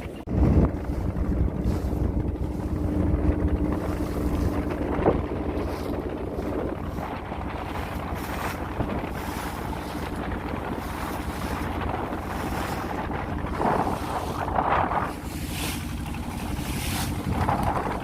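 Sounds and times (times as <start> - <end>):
boat engine hum: 0.0 - 18.0
wind buffeting microphone: 0.0 - 18.0.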